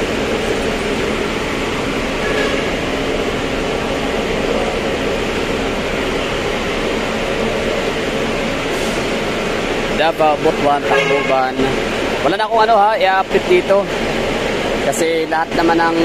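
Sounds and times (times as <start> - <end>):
buses idling: 0.0 - 16.0.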